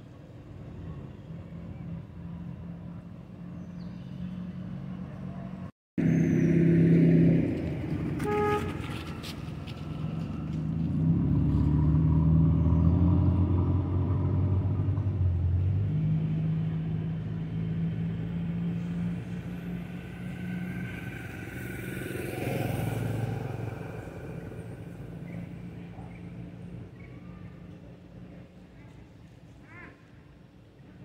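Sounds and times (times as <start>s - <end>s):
vehicles passing on road: 0.0s - 31.0s.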